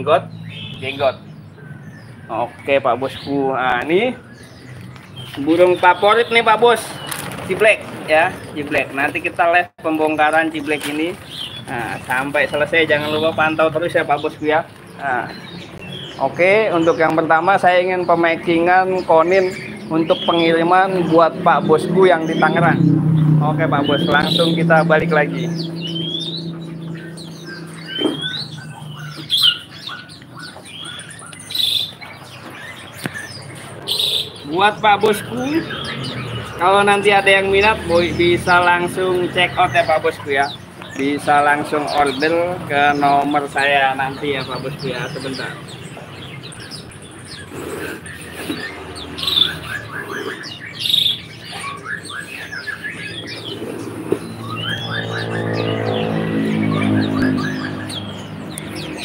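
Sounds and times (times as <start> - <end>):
songbirds chirping and whistling: 0.0 - 59.0.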